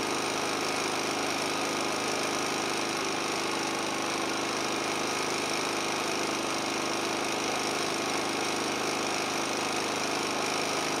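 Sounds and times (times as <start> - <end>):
generator running: 0.0 - 11.0.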